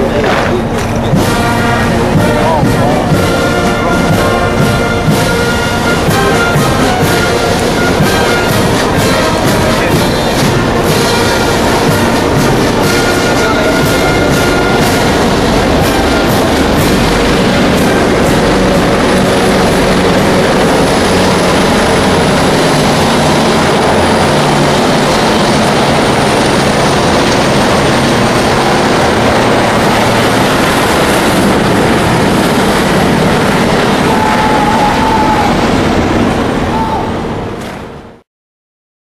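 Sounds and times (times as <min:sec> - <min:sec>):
diesel vehicle engines passing: 0:00.0 - 0:38.2.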